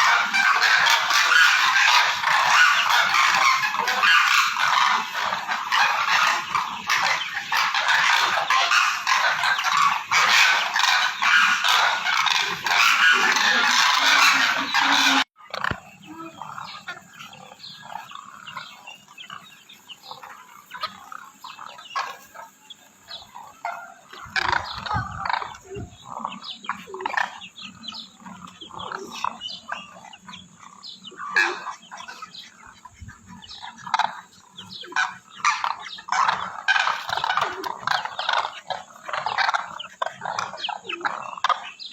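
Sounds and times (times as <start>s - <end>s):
cranes calling: 0.0s - 41.9s.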